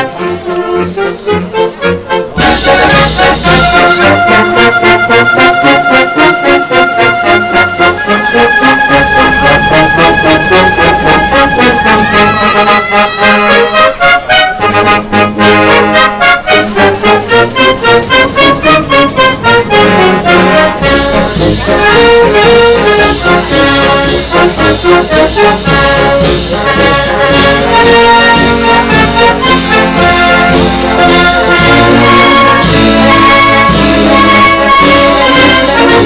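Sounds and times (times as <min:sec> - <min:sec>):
wind band playing: 0:00.0 - 0:36.0.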